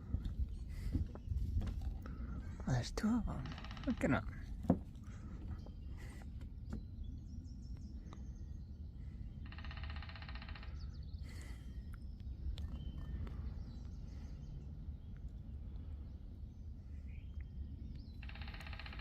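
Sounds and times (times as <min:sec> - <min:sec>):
low outdoor rumble: 0:00.0 - 0:19.0
wild birds calling: 0:00.0 - 0:19.0.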